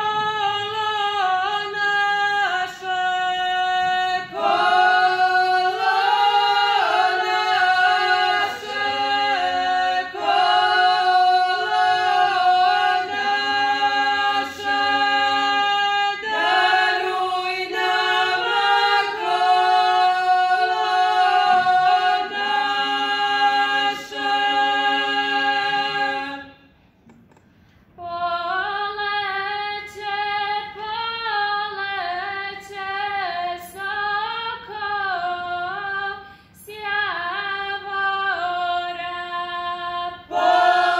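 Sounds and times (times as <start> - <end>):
women singing a cappella: 0.0 - 26.8, 28.0 - 40.9.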